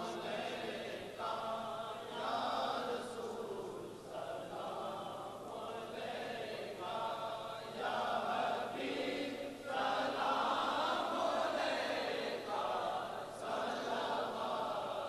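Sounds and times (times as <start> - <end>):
lead reciter: 0.0 - 15.0.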